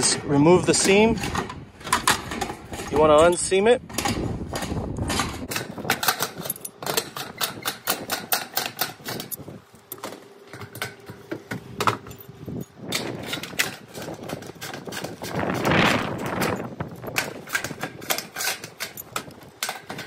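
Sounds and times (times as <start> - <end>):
tools tapping on metal roof: 0.0 - 9.4, 10.0 - 12.3, 12.9 - 20.0.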